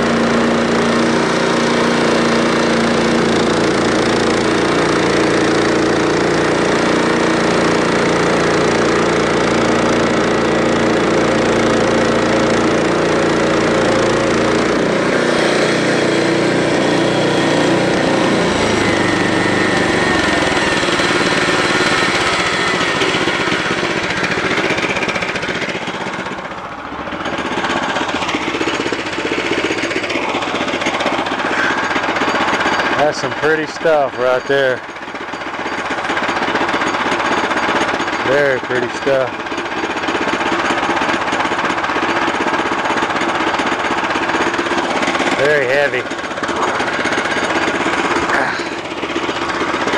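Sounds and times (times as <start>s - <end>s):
small gasoline engine running: 0.0s - 49.9s.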